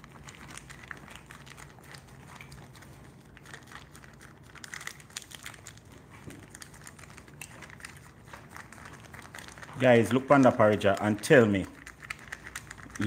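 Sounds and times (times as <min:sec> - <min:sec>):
nuts clicking and rustling: 0:00.0 - 0:13.0
plastic pouch crinkling: 0:00.0 - 0:13.0.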